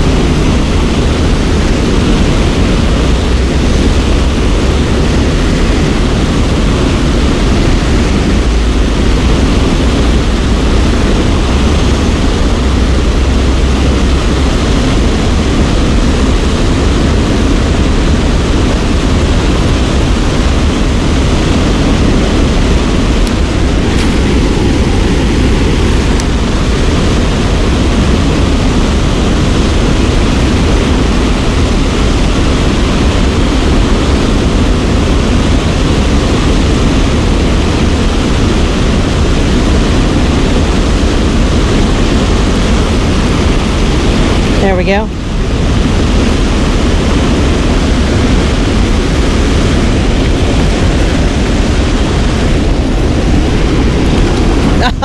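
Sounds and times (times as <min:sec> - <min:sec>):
waterfall rushing: 0:00.0 - 0:55.0
wind rumbling on microphone: 0:00.0 - 0:55.0.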